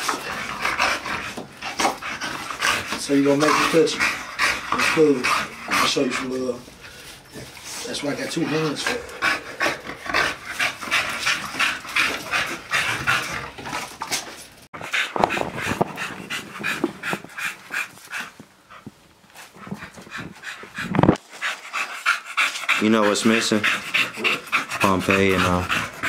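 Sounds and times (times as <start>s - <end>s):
dogs panting rapidly: 0.0s - 26.0s.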